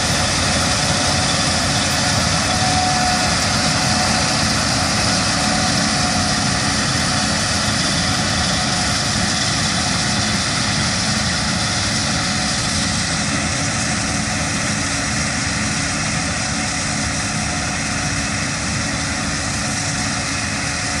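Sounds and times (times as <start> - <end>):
combine harvester drone: 0.0 - 21.0.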